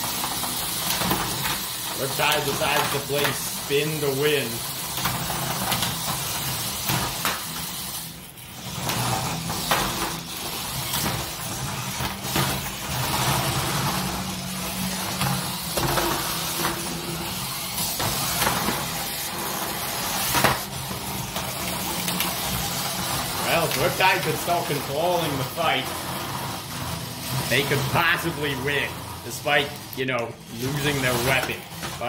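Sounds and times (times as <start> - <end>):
toy robot motors whirring: 0.0 - 32.0.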